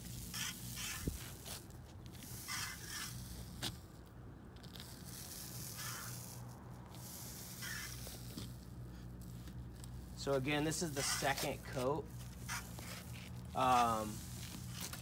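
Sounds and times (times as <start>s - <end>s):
paint roller scraping on glass: 0.0s - 3.8s, 4.7s - 8.6s, 10.2s - 15.0s.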